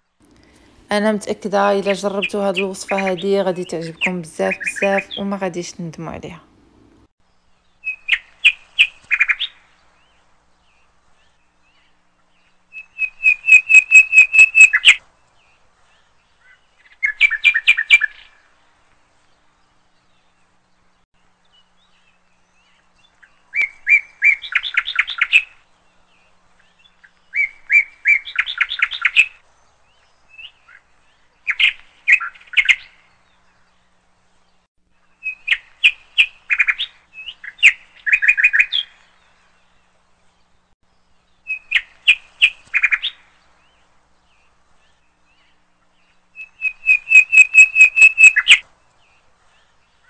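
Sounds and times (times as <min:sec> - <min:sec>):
songbird chirping and trilling: 0:00.0 - 0:18.6, 0:19.2 - 0:50.0.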